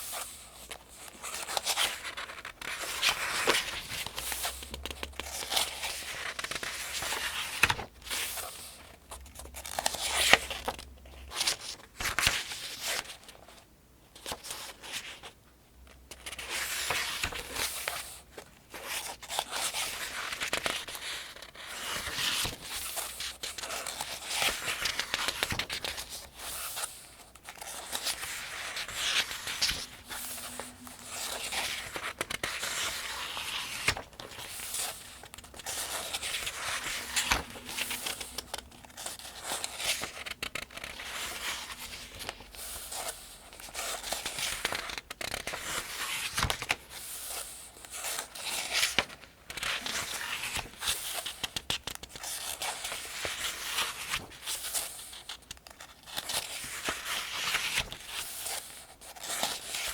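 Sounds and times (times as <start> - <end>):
paper pages turning: 0.0 - 13.5, 15.9 - 59.9.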